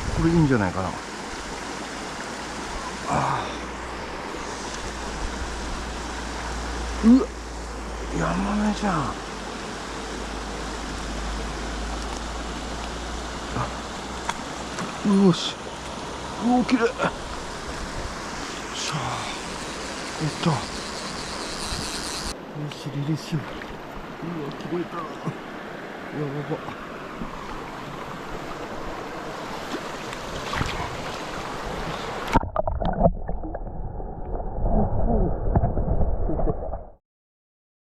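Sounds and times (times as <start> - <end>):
stream water rushing: 0.0 - 33.5.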